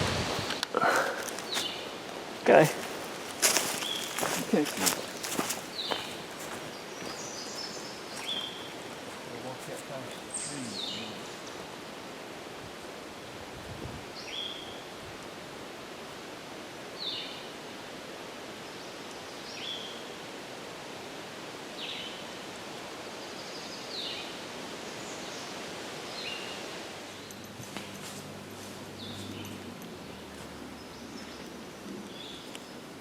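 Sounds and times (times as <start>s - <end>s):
wind rustling trees: 0.0s - 33.0s.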